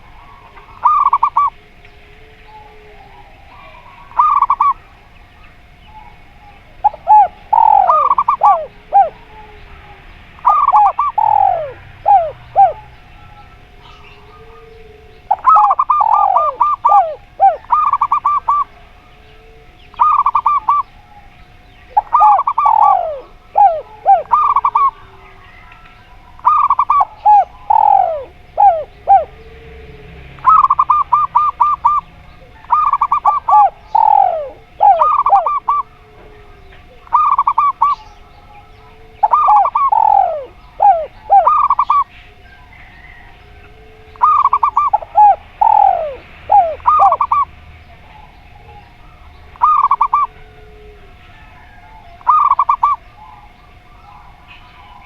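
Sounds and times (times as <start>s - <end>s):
doves cooing: 0.0s - 55.0s
faint steady tone: 0.0s - 55.0s.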